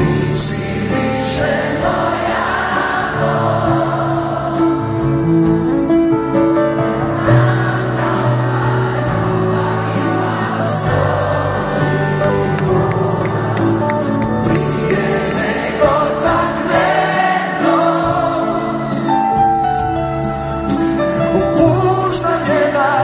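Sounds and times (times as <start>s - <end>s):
live band playing ballad: 0.0s - 23.0s
many voices singing: 0.0s - 23.0s.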